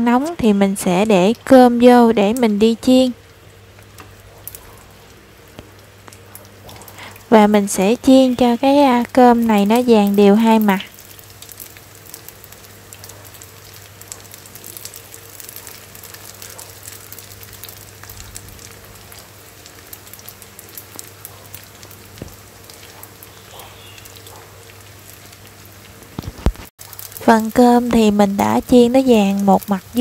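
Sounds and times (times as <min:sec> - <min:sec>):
rice sizzling in hot oil: 0:00.0 - 0:30.0.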